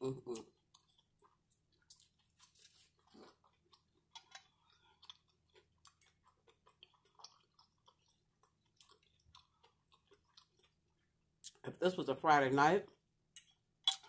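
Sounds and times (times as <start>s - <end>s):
person chewing: 0.0s - 11.6s.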